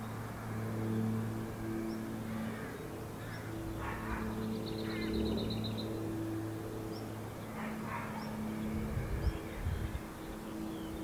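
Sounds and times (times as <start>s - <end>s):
steady low hum: 0.0s - 11.0s
small songbirds calling: 1.6s - 11.0s.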